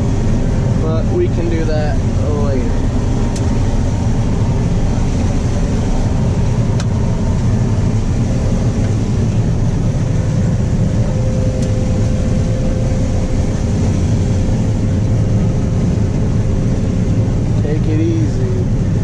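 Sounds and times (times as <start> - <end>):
combine harvester running: 0.0 - 19.0
faint steady whine: 0.0 - 19.0.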